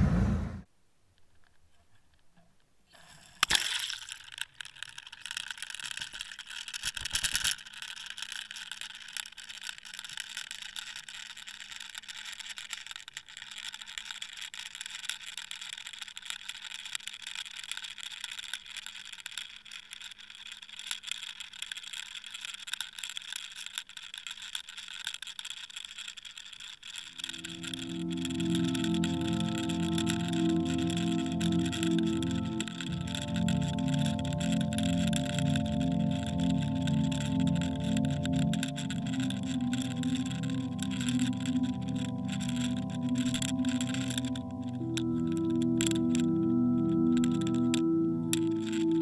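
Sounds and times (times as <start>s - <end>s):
underwater hiss and crackle: 2.9s - 14.5s, 15.1s - 49.0s.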